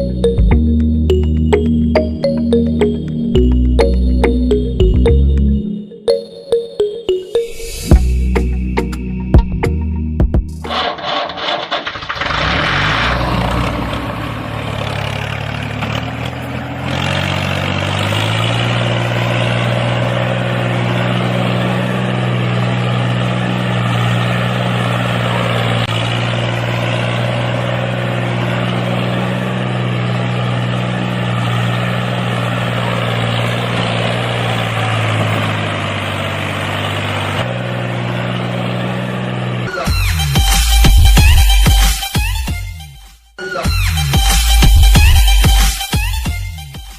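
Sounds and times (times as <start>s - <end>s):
engine running: 0.0s - 42.5s, 43.9s - 46.1s.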